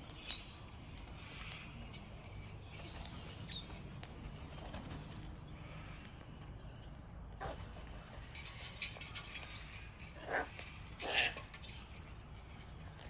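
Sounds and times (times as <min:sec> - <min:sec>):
soft bird chirps and clicks: 0:00.0 - 0:13.0.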